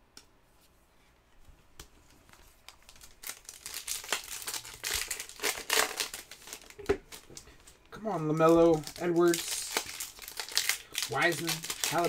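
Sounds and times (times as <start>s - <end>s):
foil wrapper crinkling and tearing: 2.3s - 12.0s.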